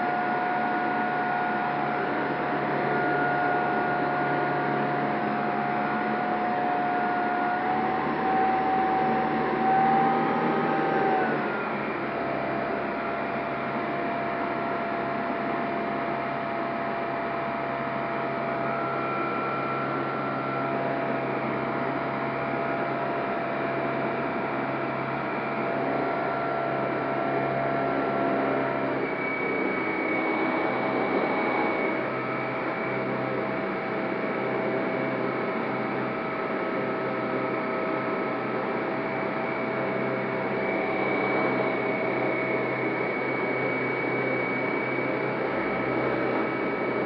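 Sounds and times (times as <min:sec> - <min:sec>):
electric motor and propeller whine: 0:00.0 - 0:47.0.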